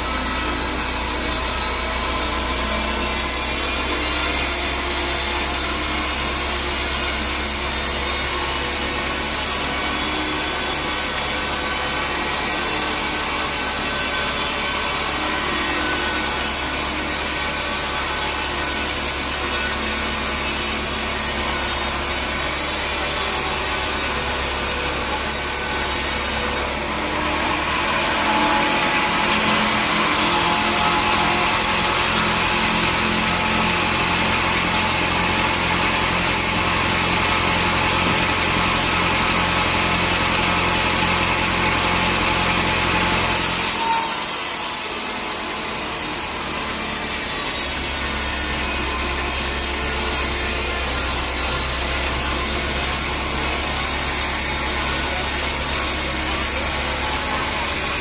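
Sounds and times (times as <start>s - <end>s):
even machine noise: 0.0s - 58.0s
sawmill saw cutting log: 0.0s - 58.0s.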